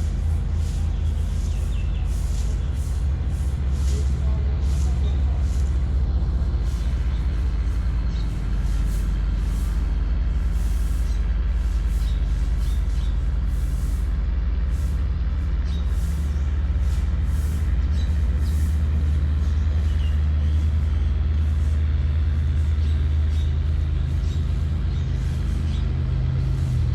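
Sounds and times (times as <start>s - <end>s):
tugboat diesel engine droning: 0.0s - 26.9s.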